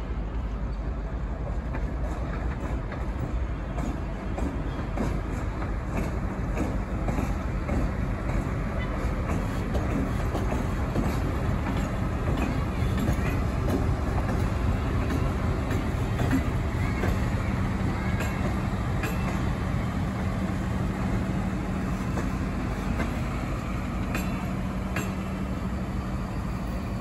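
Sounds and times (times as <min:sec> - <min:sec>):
train rumbling on tracks: 0:00.0 - 0:27.0
sharp clicks of train wheels: 0:00.7 - 0:27.0.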